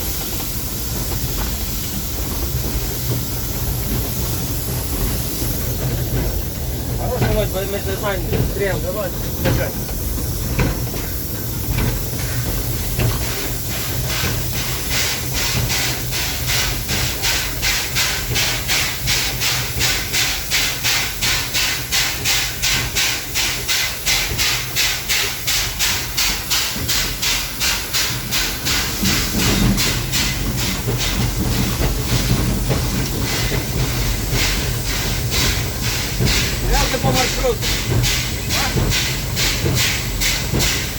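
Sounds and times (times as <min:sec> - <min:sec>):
steam hissing: 0:00.0 - 0:40.9
steam locomotive exhaust chuffing: 0:00.0 - 0:40.9.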